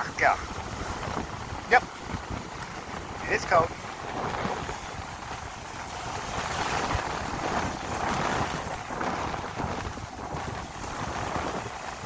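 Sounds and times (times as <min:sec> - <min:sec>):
waves breaking on sand: 0:00.0 - 0:12.0
wind rumbling on microphone: 0:00.0 - 0:12.0.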